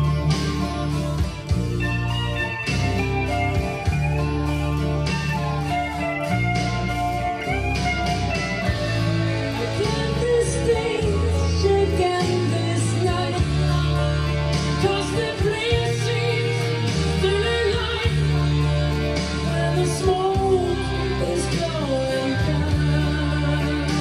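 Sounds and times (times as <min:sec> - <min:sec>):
song with singer and bass line: 0:00.0 - 0:24.0.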